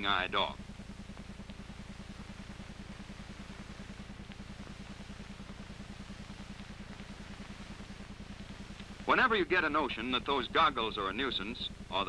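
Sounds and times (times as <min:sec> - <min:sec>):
pulsing low hum: 0:00.0 - 0:12.0.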